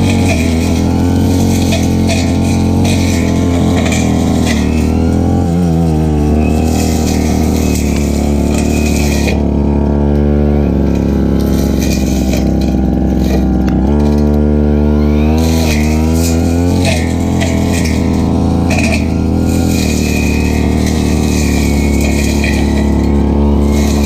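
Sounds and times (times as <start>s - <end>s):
brush cutter engine cutting grass: 0.0s - 24.0s.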